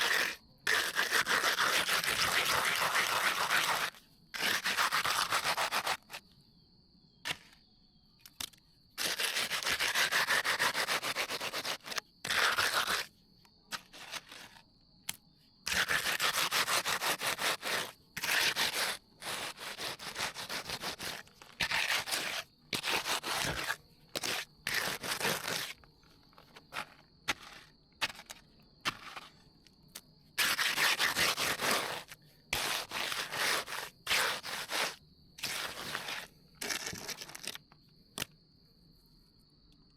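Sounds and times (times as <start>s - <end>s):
trowel scraping concrete: 0.0s - 6.2s, 7.3s - 7.6s, 9.0s - 13.1s, 13.7s - 14.6s, 15.7s - 29.4s, 30.4s - 37.6s.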